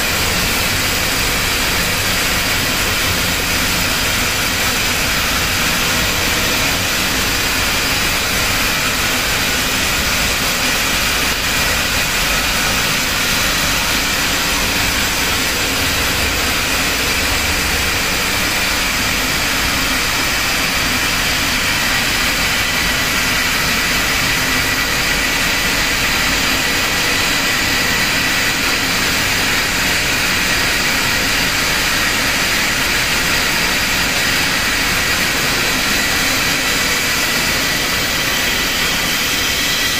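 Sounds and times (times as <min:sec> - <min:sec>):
machine hiss and whir: 0:00.0 - 0:39.9.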